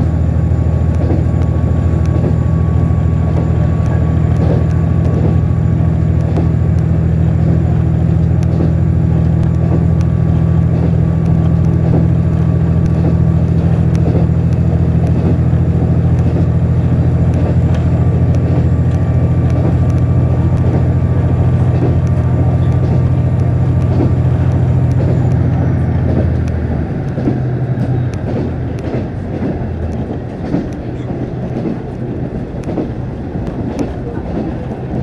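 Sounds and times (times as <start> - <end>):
diesel railcar engine droning: 0.0 - 35.0.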